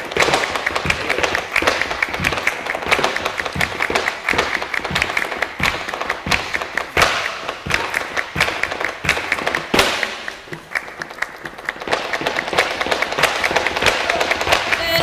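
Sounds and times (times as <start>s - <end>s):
rhythmic hand claps: 0.0s - 15.0s.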